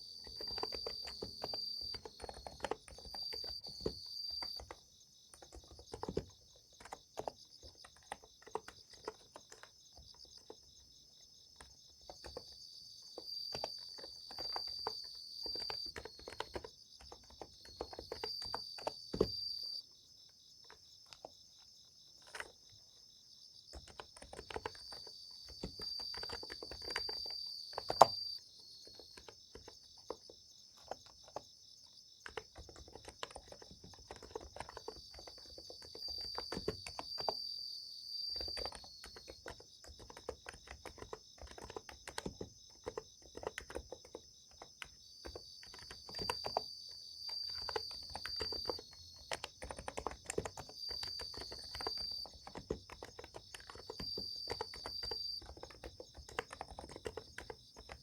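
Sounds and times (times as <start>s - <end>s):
typing on keyboard: 0.0s - 19.9s, 20.6s - 22.9s, 23.6s - 58.0s
insects chirping: 0.0s - 58.0s
loud insect trill: 0.0s - 58.0s.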